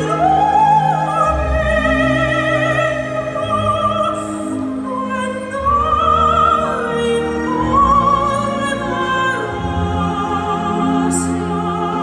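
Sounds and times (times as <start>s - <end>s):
operatic singing with vibrato: 0.0s - 12.0s
orchestral accompaniment: 0.0s - 12.0s.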